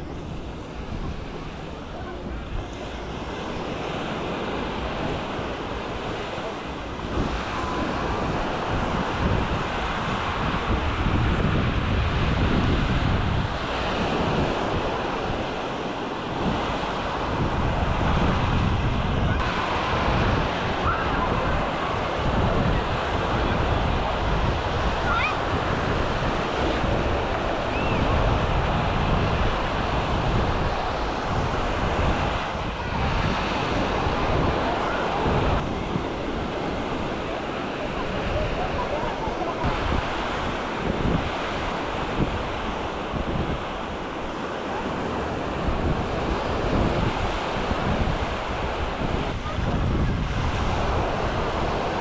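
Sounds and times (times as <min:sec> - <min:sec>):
surf washing onto sand: 0:00.0 - 0:52.0
wind gusting on microphone: 0:00.0 - 0:52.0.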